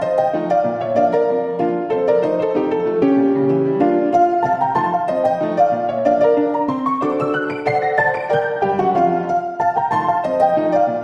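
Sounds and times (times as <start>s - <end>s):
piano music quick runs: 0.0s - 11.0s.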